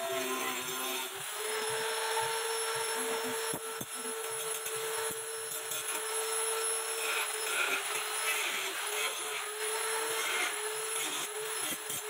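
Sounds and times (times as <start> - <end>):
angle grinder cutting plastic pipe: 0.0 - 12.0.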